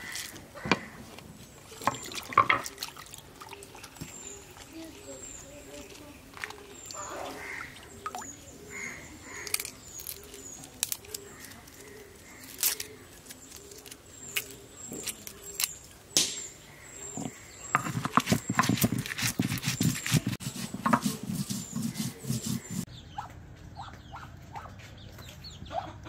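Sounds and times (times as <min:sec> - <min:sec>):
bird chirping: 0:01.5 - 0:26.0.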